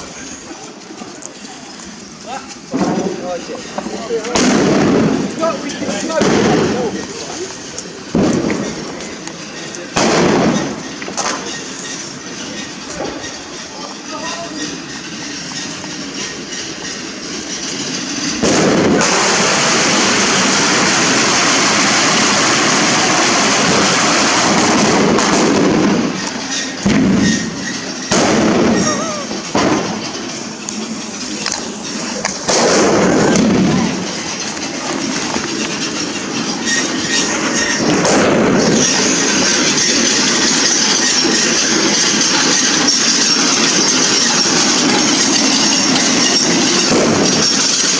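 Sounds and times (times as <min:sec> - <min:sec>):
fireworks crackling: 0:00.0 - 0:47.9
loud street din: 0:00.0 - 0:47.9.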